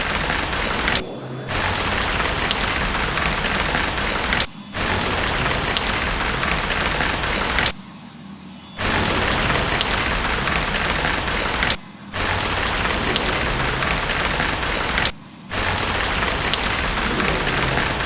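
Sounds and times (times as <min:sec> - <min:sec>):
heavy rain hiss: 0:00.0 - 0:07.8, 0:08.8 - 0:18.0
rain drops crackling: 0:00.0 - 0:07.8, 0:08.8 - 0:18.0.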